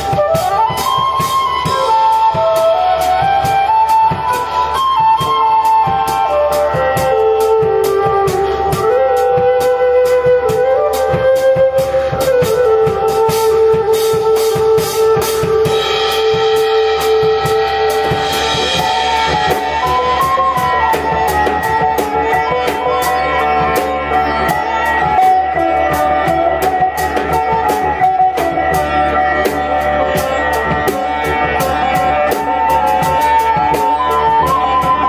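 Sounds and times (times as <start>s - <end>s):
didgeridoo drone: 0.0s - 35.0s
drum kit beat: 0.0s - 35.0s
flute long notes: 0.0s - 35.0s
plucked string instrument: 0.0s - 35.0s.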